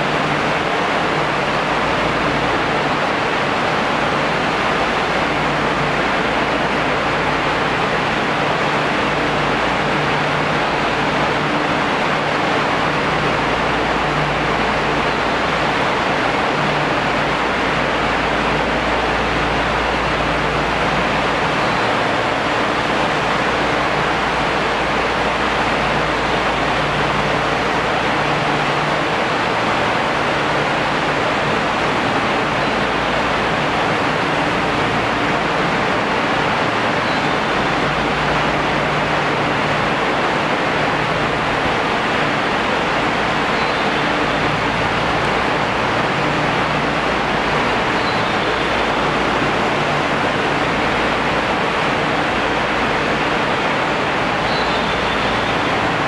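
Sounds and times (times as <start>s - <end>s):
loud steady rushing noise: 0.0s - 56.0s.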